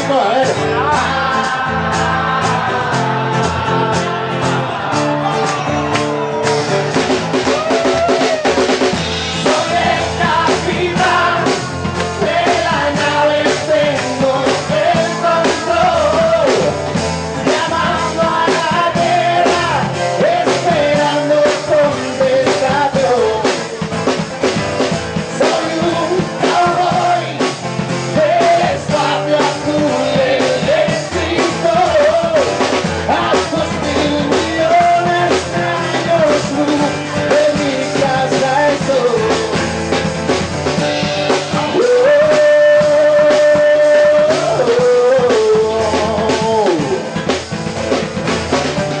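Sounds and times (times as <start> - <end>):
male singer: 0.0 - 5.7, 9.4 - 24.1, 25.3 - 39.7, 41.3 - 47.2
drum kit beat: 0.0 - 49.0
strummed guitars: 0.0 - 49.0.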